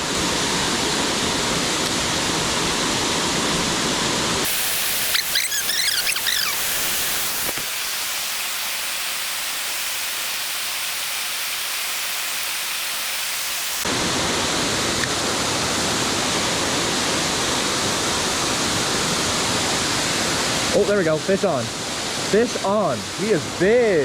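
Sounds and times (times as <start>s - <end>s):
waterfall rushing into creek: 0.0s - 24.0s.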